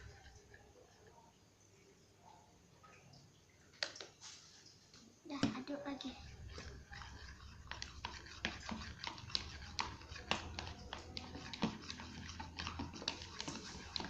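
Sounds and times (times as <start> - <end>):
spatula stirring slime: 0.0 - 1.4, 3.9 - 14.0.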